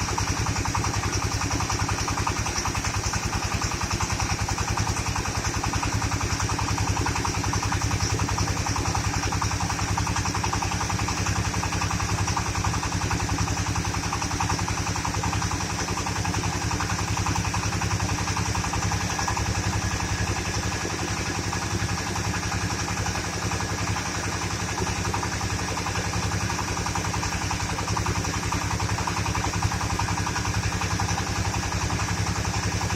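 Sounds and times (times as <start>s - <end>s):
engine chugging: 0.0s - 32.9s.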